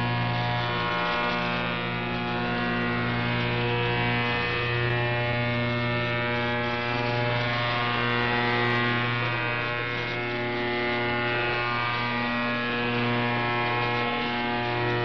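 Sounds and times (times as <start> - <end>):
radio jammer buzzing: 0.0 - 15.0.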